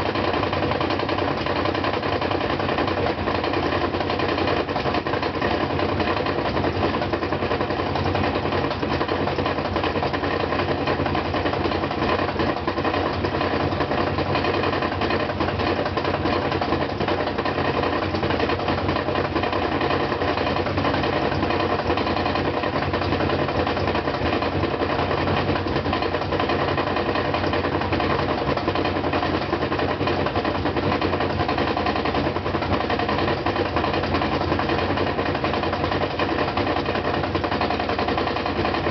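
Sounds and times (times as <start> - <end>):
spinning drum hum: 0.0 - 38.9
washing machine loud knocking: 0.0 - 38.9.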